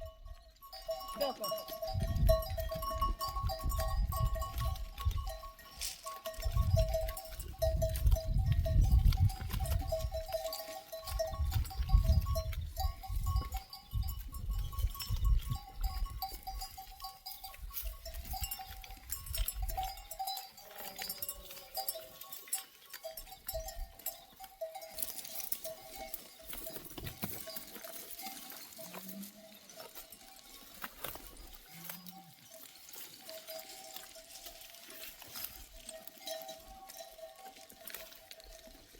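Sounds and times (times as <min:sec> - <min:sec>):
animal neck bells clinking: 0:00.0 - 0:38.9.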